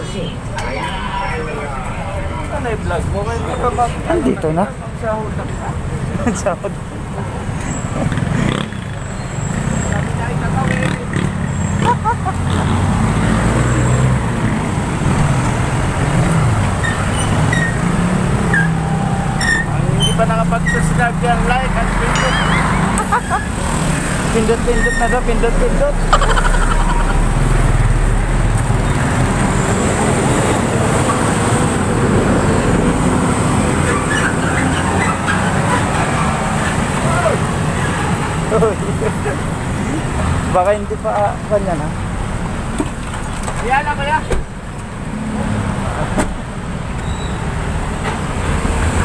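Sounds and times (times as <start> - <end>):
traffic hum: 0.0 - 49.0.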